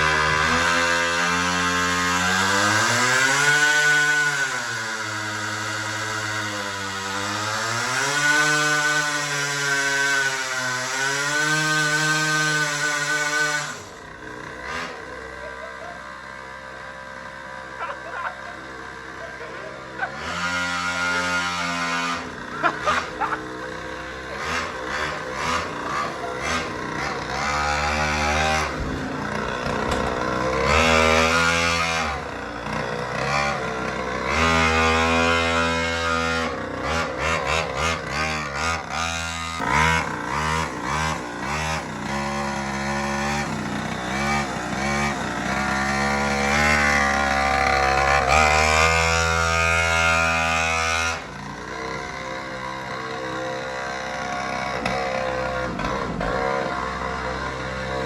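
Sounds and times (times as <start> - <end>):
small engine revving: 0.0 - 58.0.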